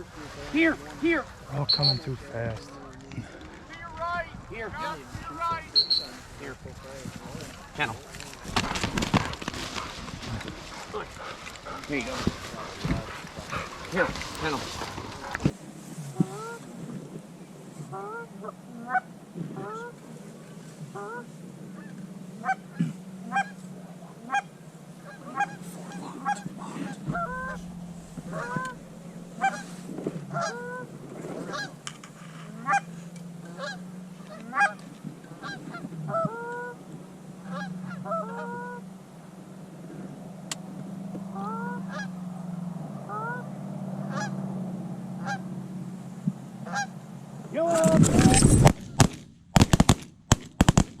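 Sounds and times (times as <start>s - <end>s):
geese honking: 0.0s - 16.9s, 17.7s - 49.0s
steady low hum: 0.0s - 51.0s.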